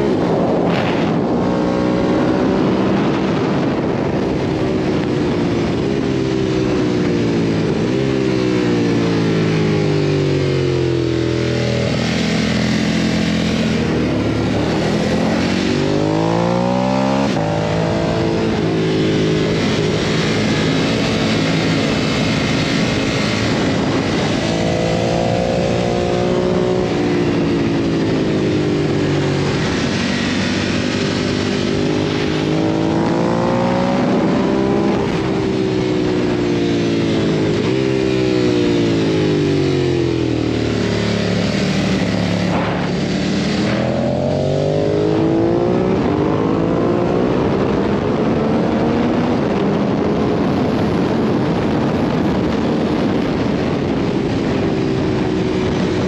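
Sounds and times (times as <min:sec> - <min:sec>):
motorcycle engine revving: 0:00.0 - 0:56.0
wind rushing: 0:00.0 - 0:56.0.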